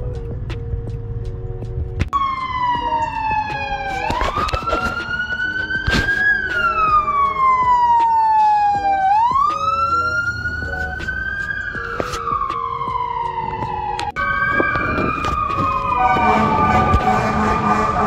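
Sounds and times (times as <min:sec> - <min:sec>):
siren wailing: 0:02.2 - 0:18.0.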